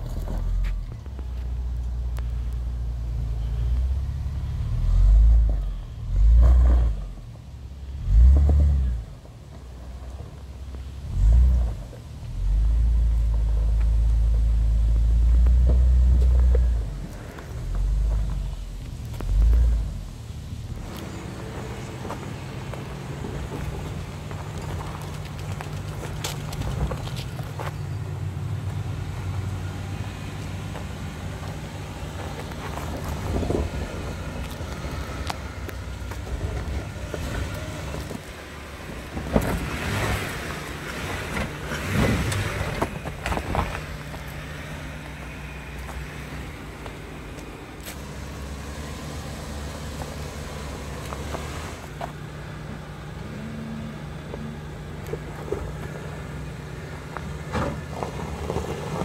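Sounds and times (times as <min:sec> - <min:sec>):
car engine running at low revs: 0:00.0 - 0:59.0
tyres crunching over dirt: 0:00.0 - 0:59.0.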